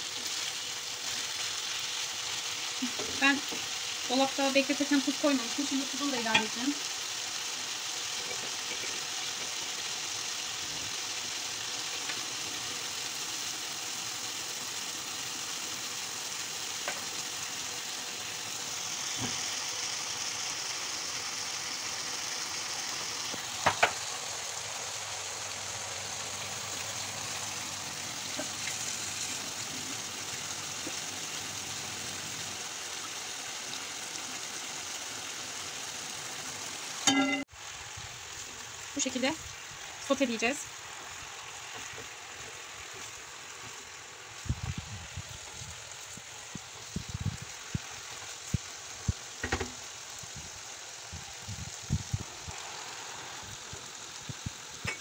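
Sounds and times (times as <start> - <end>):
chicken sizzling in frying pan: 0.0 - 55.0.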